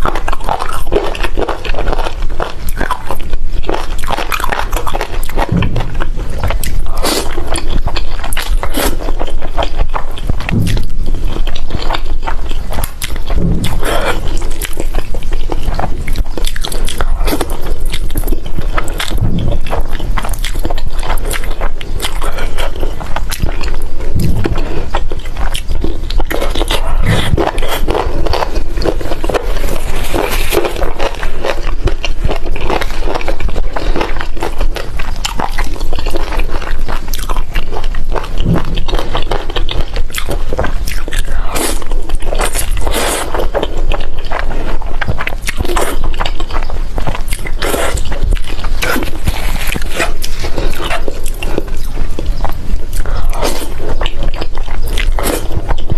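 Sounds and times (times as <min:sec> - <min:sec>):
person slurping and chewing noodles: 0:00.0 - 0:55.9.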